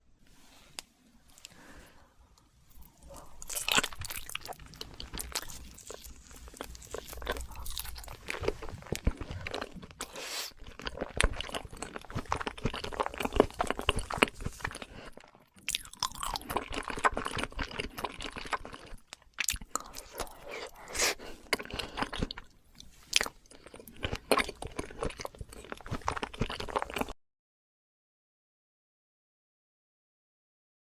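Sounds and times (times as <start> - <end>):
person chewing crunchy food: 2.4 - 27.2.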